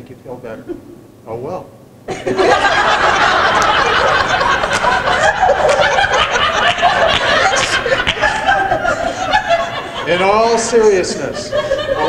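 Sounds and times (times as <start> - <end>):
roomful of people laughing: 2.1 - 12.0.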